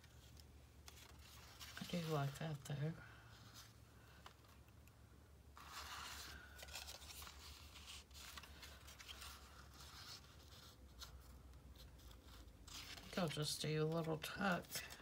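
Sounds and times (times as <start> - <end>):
paper rustling as it is folded: 0.0 - 4.6, 5.6 - 15.0.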